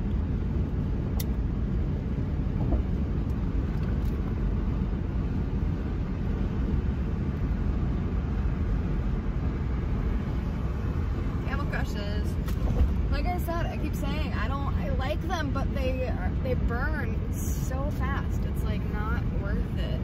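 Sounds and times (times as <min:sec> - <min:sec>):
road and engine rumble in car: 0:00.0 - 0:20.0.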